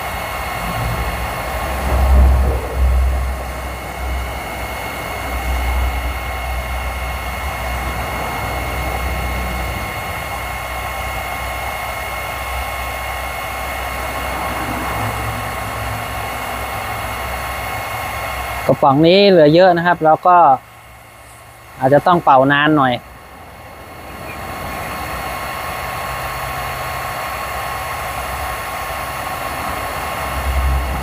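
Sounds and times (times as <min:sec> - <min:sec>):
heat gun blowing air: 0:00.0 - 0:31.0.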